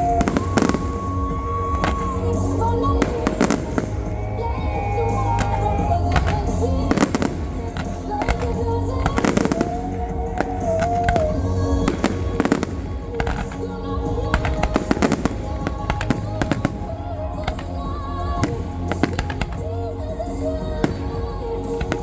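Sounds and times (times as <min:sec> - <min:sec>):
fireworks bangs and crackles: 0:00.0 - 0:22.0
song on loudspeakers: 0:00.0 - 0:22.0.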